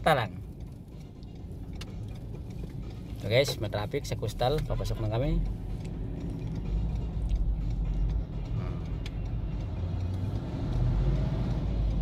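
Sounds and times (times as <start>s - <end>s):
car engine rumble from inside cabin: 0.0s - 12.0s.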